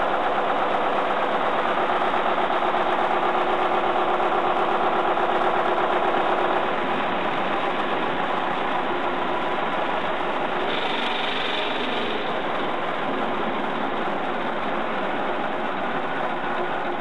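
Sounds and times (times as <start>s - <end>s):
diesel generator running: 0.0s - 17.0s.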